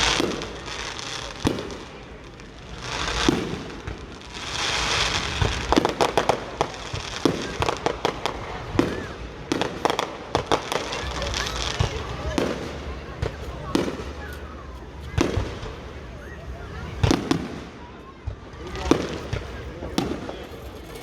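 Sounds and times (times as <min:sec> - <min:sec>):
fireworks bangs: 0:00.0 - 0:21.0
fireworks crackling and popping: 0:00.0 - 0:21.0.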